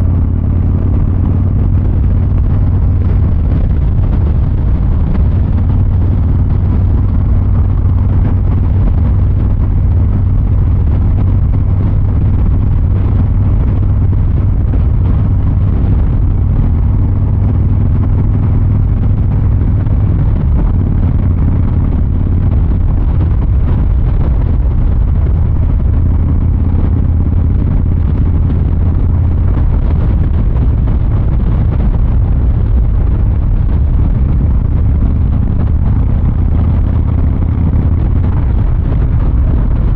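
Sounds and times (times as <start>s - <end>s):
motorcycle exhaust rumbling: 0.0s - 39.9s.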